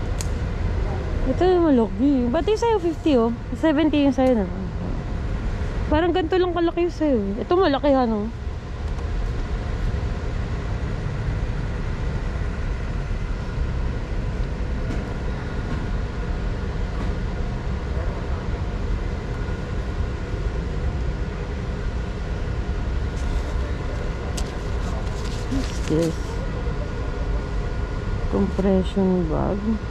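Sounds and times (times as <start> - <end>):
faint steady hum: 0.0 - 29.9
store background rumble: 0.0 - 29.9.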